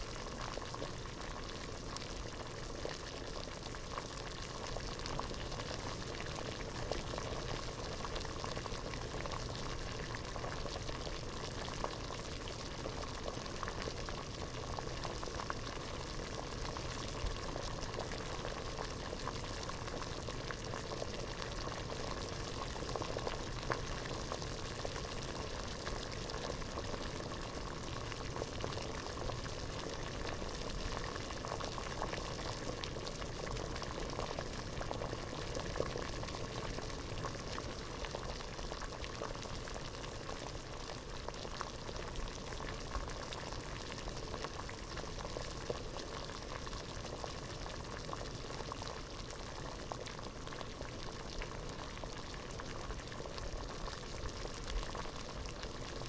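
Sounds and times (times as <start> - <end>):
water boiling in a pot: 0.0 - 56.0.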